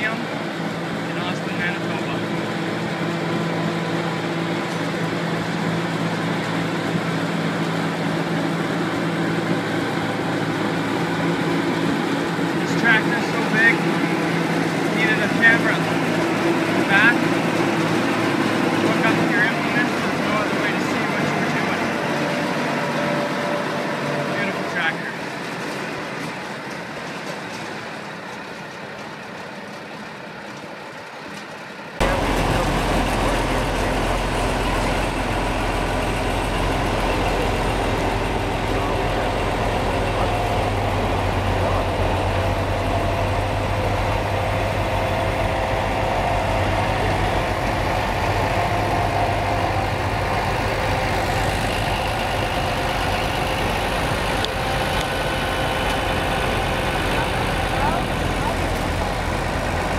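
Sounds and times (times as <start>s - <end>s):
deep diesel engine running: 0.0s - 59.9s
tractor engine idling: 0.0s - 59.9s.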